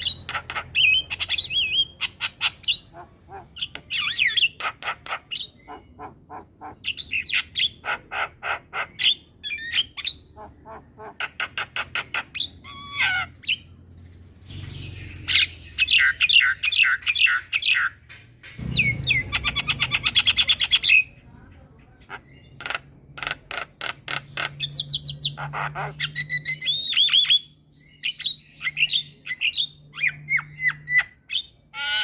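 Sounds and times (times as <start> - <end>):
myna bird singing: 0.0 - 32.0.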